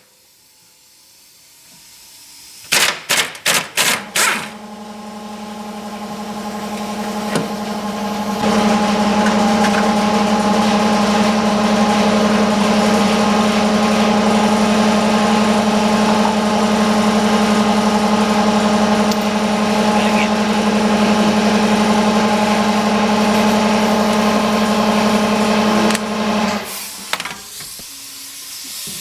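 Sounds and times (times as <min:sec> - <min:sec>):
machine motor humming: 0:03.8 - 0:28.0.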